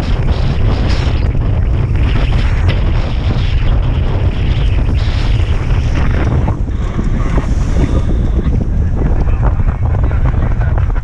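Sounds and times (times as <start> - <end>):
waves splashing on boat hull: 0.0 - 11.0
wind buffeting microphone: 0.0 - 11.0.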